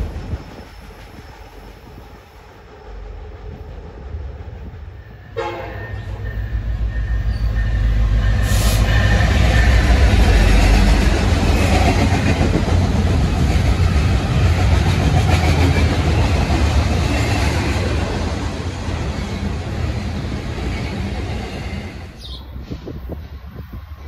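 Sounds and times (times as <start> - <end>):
diesel locomotives rumbling past: 0.0 - 24.0
train wheels on rails: 0.0 - 24.0.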